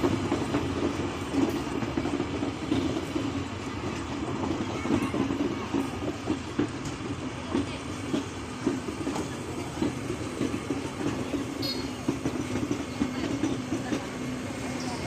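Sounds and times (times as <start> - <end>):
train rumble: 0.0 - 15.0
train wheels clicking over rail joints: 0.0 - 15.0.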